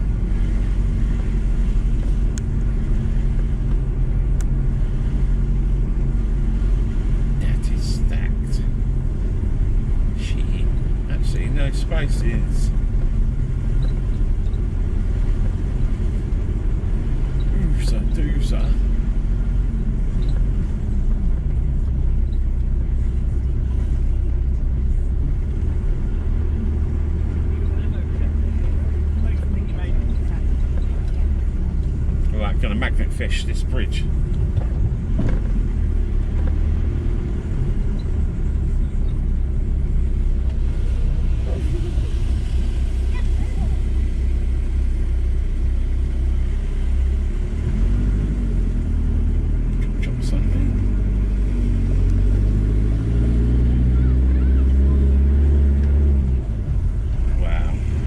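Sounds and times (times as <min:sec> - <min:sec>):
van engine and road rumble: 0:00.0 - 0:58.0.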